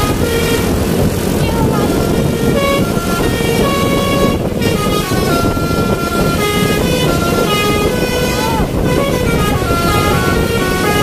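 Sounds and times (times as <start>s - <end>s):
low rumble: 0.0s - 11.0s
musical bus horn playing tune: 0.0s - 11.0s.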